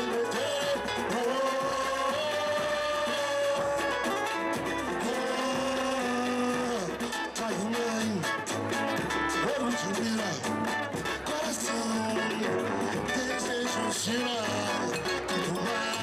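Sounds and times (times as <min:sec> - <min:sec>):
acoustic guitar: 0:00.0 - 0:16.0
cavaquinho: 0:00.0 - 0:16.0
samba drums: 0:00.0 - 0:16.0.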